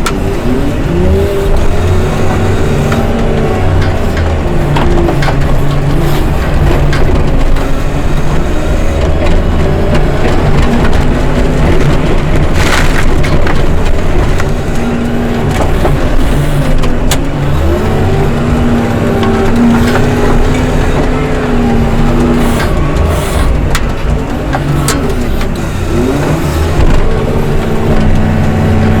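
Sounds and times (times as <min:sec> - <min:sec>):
crunching: 0:00.0 - 0:29.0
heavy machine diesel engine running: 0:00.0 - 0:29.0.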